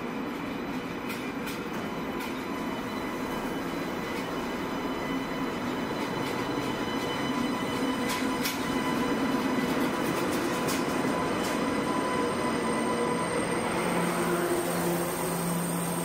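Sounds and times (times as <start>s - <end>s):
train humming and whining: 0.0s - 16.0s.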